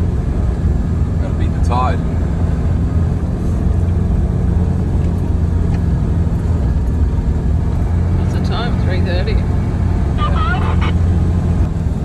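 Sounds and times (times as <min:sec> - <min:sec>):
engine and tyre drone: 0:00.0 - 0:12.0.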